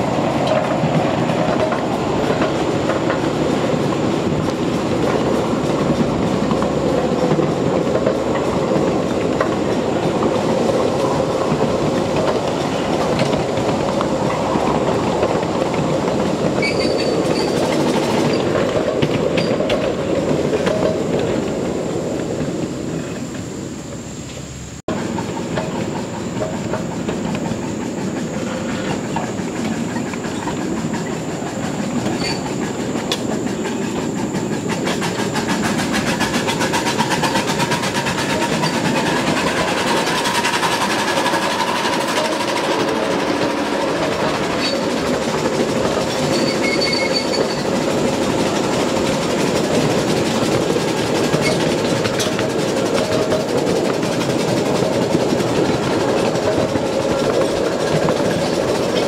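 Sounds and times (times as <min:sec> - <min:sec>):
train wheels clicking on rails: 0:00.0 - 0:59.0.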